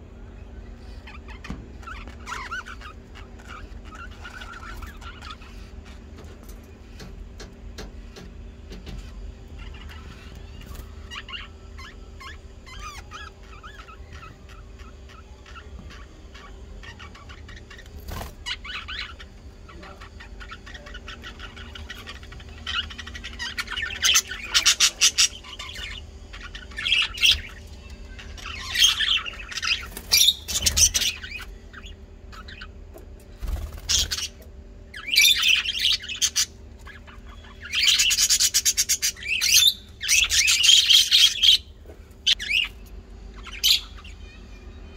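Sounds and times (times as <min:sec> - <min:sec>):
birds chirping: 0:00.0 - 0:44.9
steady low hum: 0:00.0 - 0:44.9.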